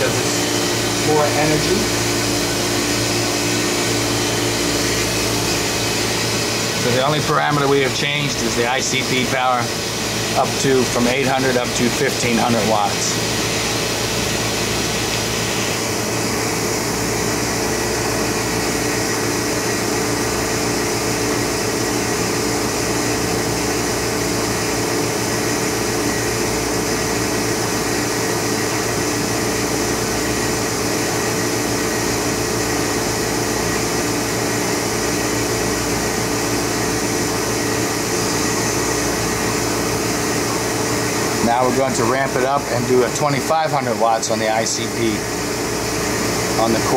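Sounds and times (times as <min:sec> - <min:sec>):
machine hum and rushing: 0:00.0 - 0:43.6.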